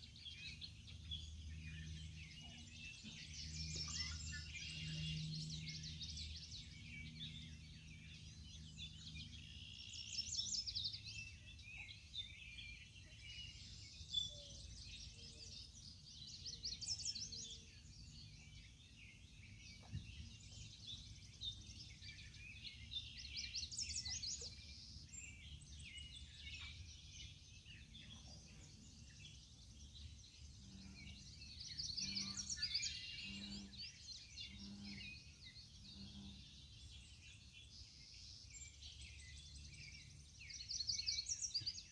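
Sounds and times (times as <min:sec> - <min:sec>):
songbirds singing and trilling: 0:00.0 - 0:41.9.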